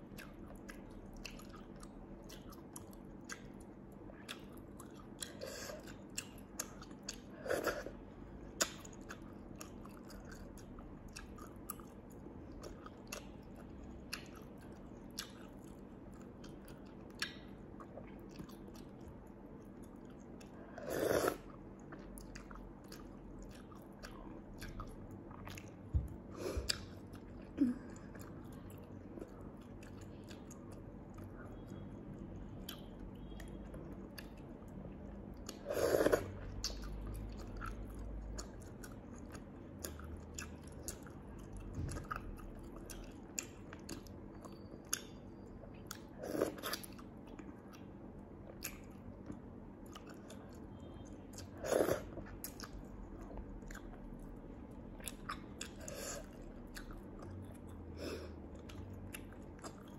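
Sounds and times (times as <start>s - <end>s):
person chewing snails: 0.0s - 59.9s.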